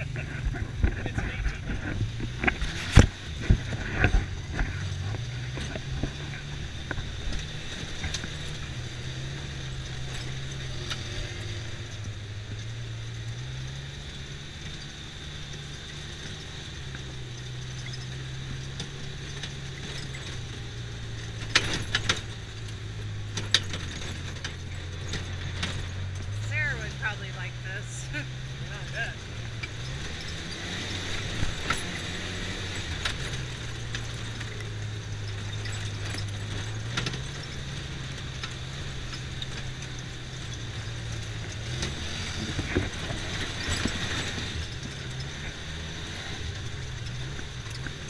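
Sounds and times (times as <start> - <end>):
utility vehicle engine humming: 0.0 - 48.0.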